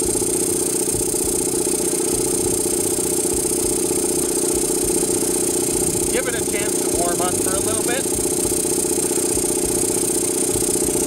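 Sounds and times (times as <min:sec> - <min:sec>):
air compressor pump pulsing: 0:00.0 - 0:11.0
compressor high hiss: 0:00.0 - 0:11.0.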